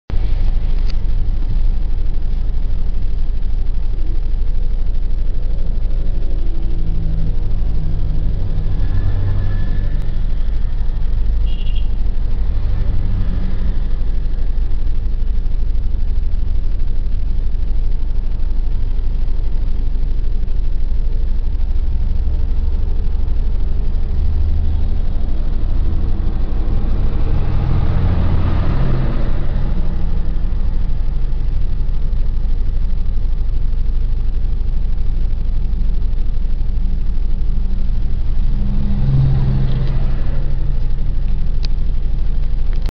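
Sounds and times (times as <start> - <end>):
diesel tractor engine: 0.1 - 18.3, 21.5 - 32.7, 35.4 - 42.9
car engine and road rumble: 0.1 - 42.9.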